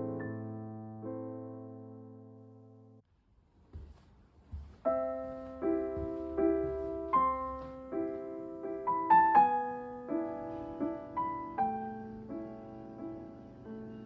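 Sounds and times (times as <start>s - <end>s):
slow solo piano: 0.0s - 3.0s, 4.8s - 14.0s.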